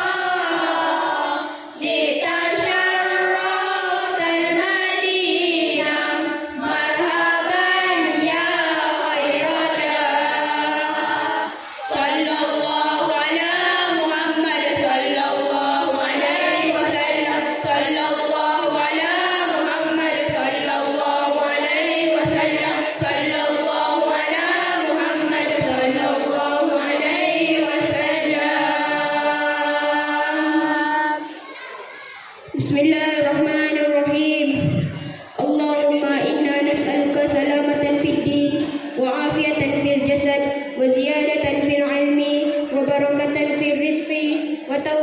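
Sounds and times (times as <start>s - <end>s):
children singing together: 0.0s - 45.0s.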